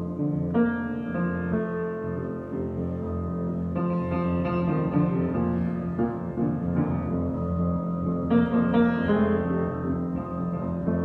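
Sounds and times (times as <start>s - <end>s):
grand piano chords: 0.0s - 11.0s.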